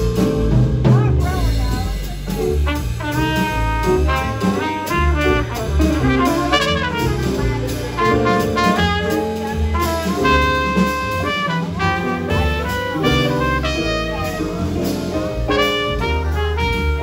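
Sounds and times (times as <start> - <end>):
drum kit: 0.0 - 17.0
piano: 0.0 - 17.0
upright bass: 0.0 - 17.0
trumpet: 2.5 - 17.0.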